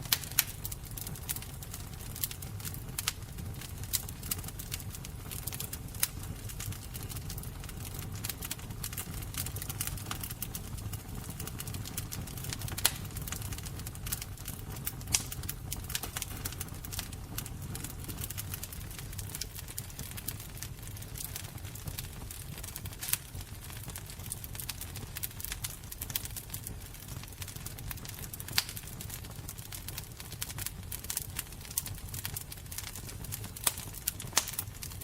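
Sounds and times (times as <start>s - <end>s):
fire crackling and popping: 0.0s - 35.0s
fire roaring: 0.0s - 35.0s.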